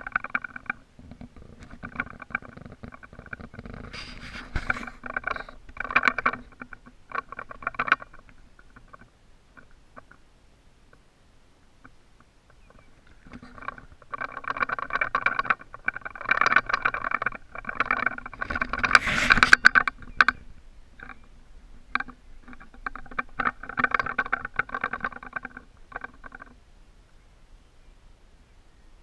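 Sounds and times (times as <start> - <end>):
fishing reel drag ticking: 0.0 - 10.2, 12.5 - 26.6.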